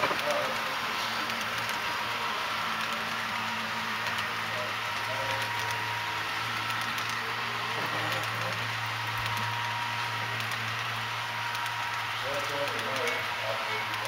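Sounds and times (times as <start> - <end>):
model train wheels ticking: 0.0 - 14.0.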